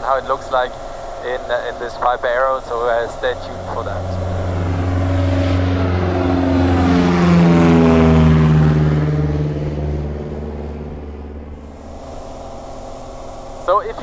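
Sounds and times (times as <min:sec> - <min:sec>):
propeller airplane flying past: 0:00.0 - 0:14.0.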